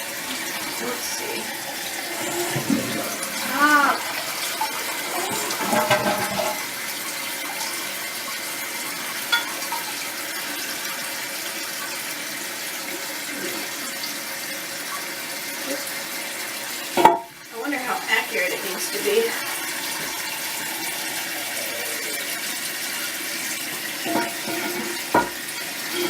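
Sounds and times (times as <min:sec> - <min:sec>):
water hissing into toilet tank: 0:00.0 - 0:26.0.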